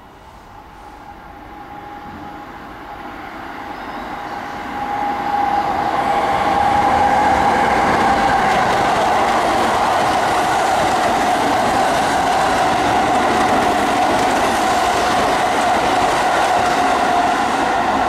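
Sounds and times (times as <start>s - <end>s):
electric train passing: 0.0s - 18.0s
steady train whine: 0.0s - 18.0s.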